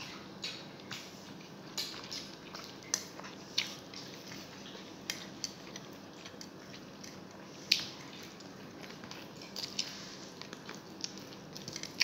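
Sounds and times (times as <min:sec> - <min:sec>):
chewing: 0:00.0 - 0:12.0
fingers mixing rice on plate: 0:00.4 - 0:12.0.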